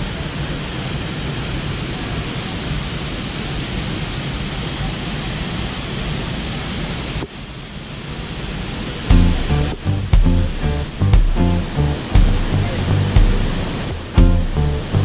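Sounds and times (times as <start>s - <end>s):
waterfall rushing: 0.2s - 15.0s.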